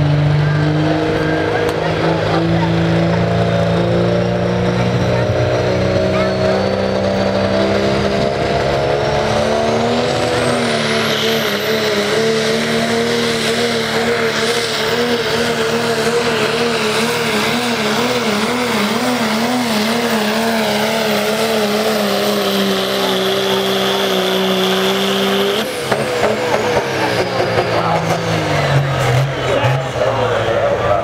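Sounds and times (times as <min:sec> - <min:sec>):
diesel truck engine under heavy load: 0:00.0 - 0:31.0.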